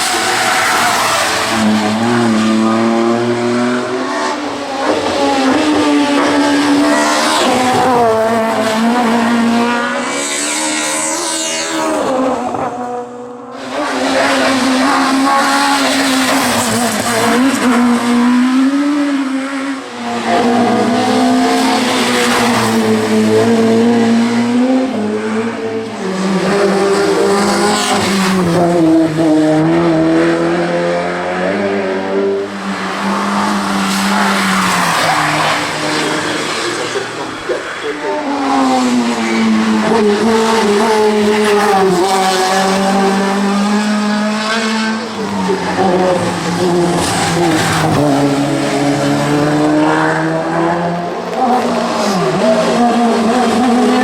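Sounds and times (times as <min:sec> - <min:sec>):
race car engines at full throttle: 0:00.0 - 0:54.0.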